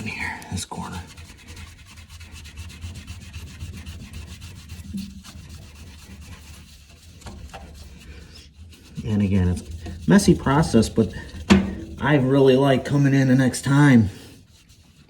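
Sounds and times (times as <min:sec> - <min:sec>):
paper towel scrubbing glass: 0:00.0 - 0:15.0.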